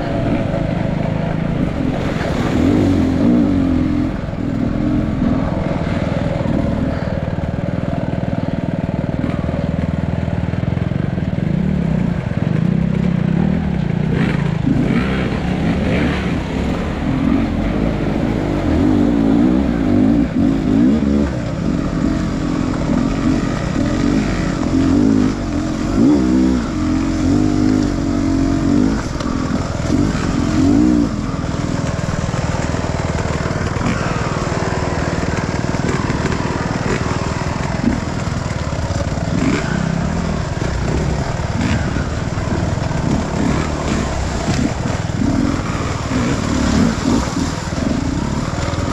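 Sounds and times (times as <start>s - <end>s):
dirt bike engine revving: 0.0s - 10.8s, 11.4s - 48.9s.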